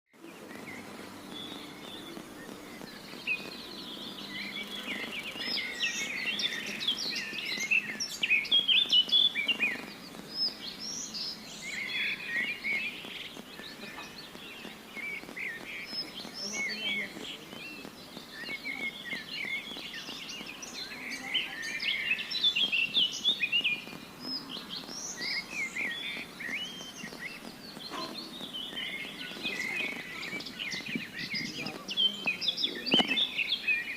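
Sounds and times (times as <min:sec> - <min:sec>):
birds chirping and singing: 0:00.2 - 0:33.9
faint background hiss: 0:00.2 - 0:33.9.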